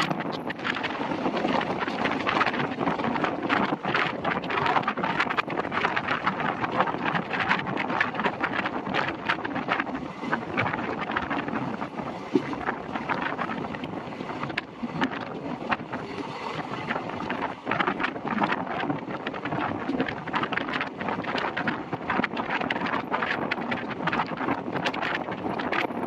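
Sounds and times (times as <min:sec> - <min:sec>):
clicks and clatter of wheels: 0:00.0 - 0:26.0
train wheels rumbling on rails: 0:00.0 - 0:26.0
wind buffeting microphone: 0:00.0 - 0:26.0.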